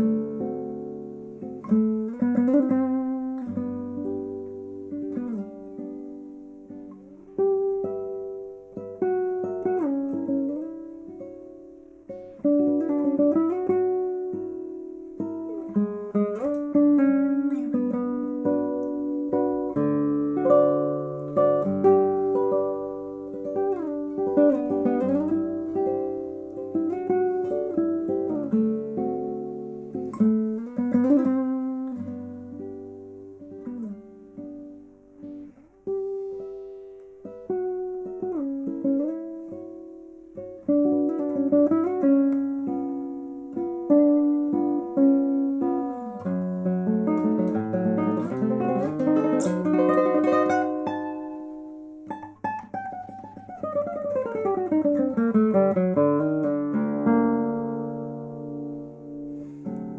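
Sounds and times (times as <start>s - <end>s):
classical guitar fingerstyle: 0.0s - 59.9s.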